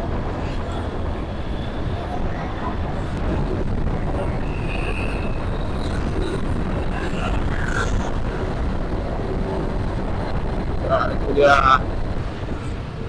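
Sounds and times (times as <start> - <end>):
road noise: 0.0 - 13.0
wind rush on microphone: 0.0 - 13.0.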